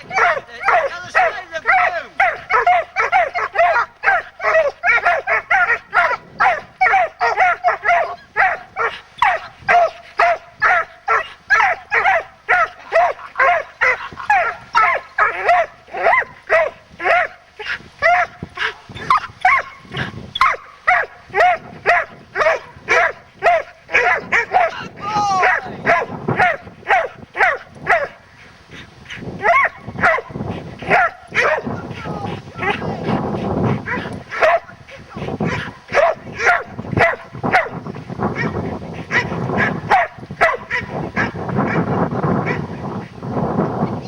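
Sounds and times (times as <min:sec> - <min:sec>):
dog barking and yelping: 0:00.0 - 0:42.8.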